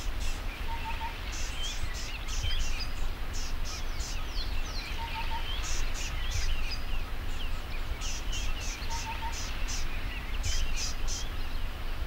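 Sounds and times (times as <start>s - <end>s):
birds chirping and calling: 0.1s - 11.7s.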